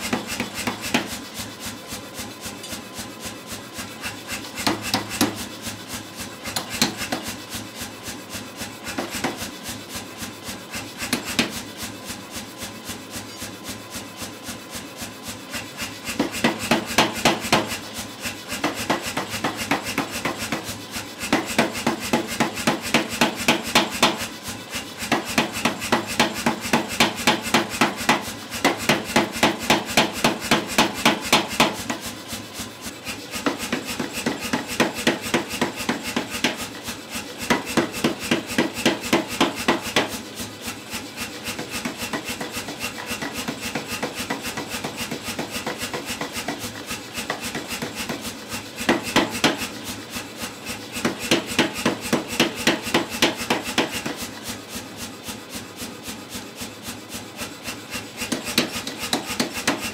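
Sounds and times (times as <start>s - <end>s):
power hammer pounding hot steel: 0.0s - 59.9s.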